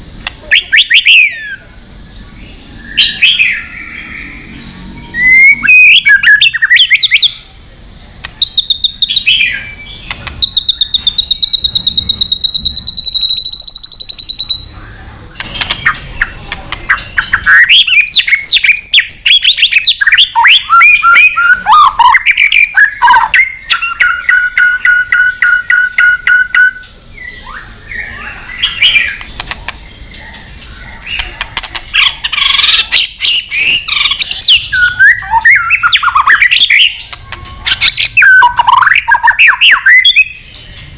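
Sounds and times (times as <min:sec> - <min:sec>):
bird singing whistled song: 0:00.5 - 0:07.4, 0:08.4 - 0:15.0, 0:15.7 - 0:30.1, 0:32.0 - 0:40.8.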